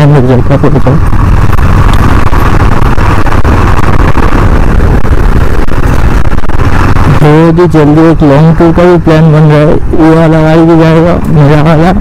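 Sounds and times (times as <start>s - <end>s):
loud steady low rumble: 0.0s - 12.0s
motorcycle engine running: 0.1s - 12.0s.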